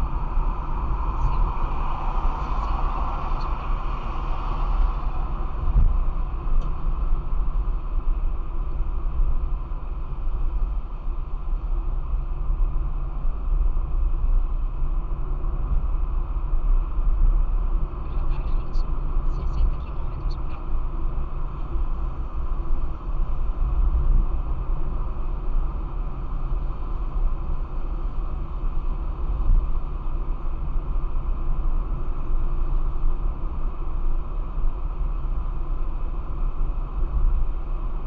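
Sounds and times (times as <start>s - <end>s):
car engine and tyre noise: 0.0s - 38.0s.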